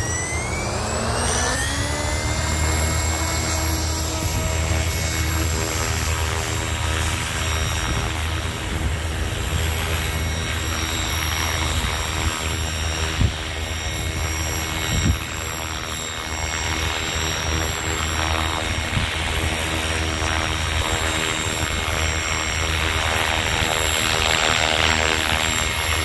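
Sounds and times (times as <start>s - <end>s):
model helicopter rotor whine: 0.0s - 26.0s.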